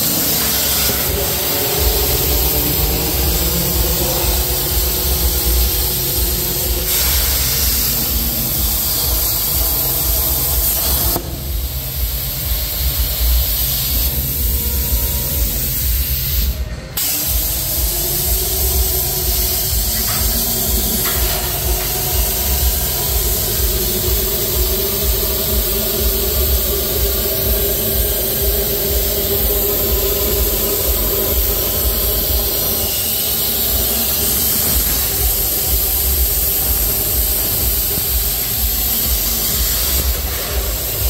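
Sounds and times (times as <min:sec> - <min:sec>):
low pulsing drone: 0:00.0 - 0:41.0
plasma torch hissing: 0:00.0 - 0:41.0.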